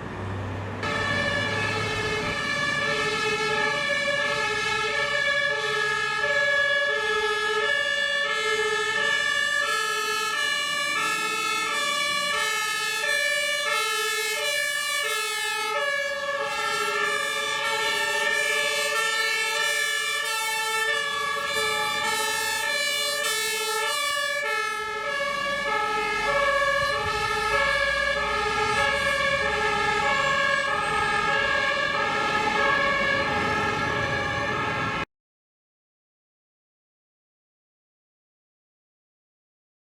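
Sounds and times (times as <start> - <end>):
fire engine two-tone sirens: 0.0 - 35.1.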